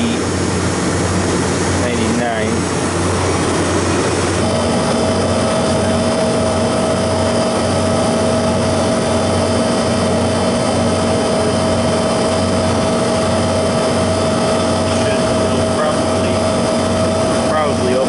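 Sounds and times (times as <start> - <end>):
compressor hum: 0.0 - 18.0
faint steady whine: 0.0 - 18.0.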